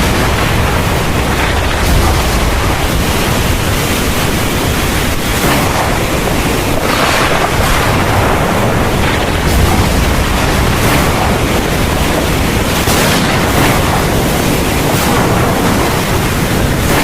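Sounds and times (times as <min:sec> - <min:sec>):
heavy rain pouring: 0:00.0 - 0:17.0
low rumble: 0:00.0 - 0:17.0.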